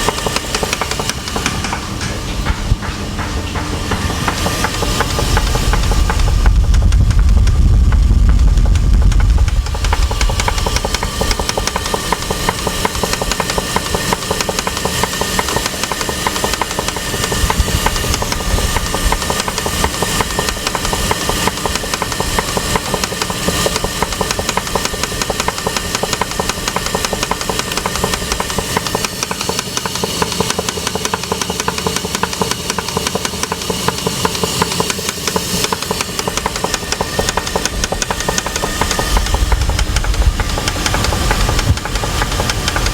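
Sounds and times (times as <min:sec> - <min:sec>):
car engine running: 0:00.0 - 0:42.9
rapid engine knock: 0:00.0 - 0:42.9.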